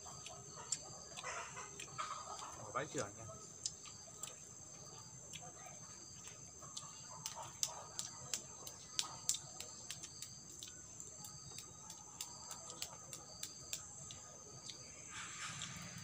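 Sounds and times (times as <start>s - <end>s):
insects droning: 0.0s - 16.0s
gum chewing wet clicks: 0.1s - 16.0s.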